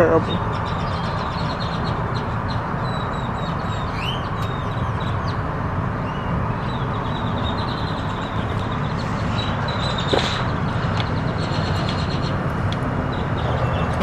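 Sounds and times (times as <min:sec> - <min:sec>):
car engine rumble: 0:00.0 - 0:14.0
bird chirps: 0:00.4 - 0:05.4, 0:06.0 - 0:12.4.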